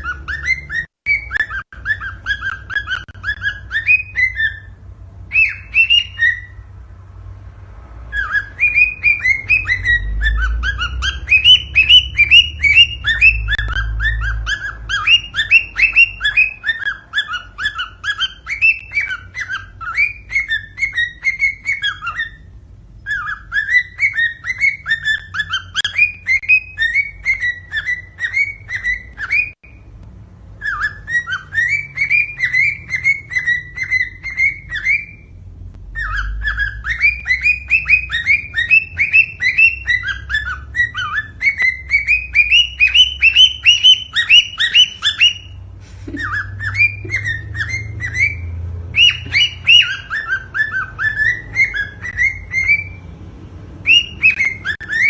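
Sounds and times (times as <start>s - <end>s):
cockatiel whistled chirps: 0.0s - 6.7s, 8.1s - 29.9s, 30.6s - 35.3s, 35.9s - 53.1s, 53.8s - 55.0s.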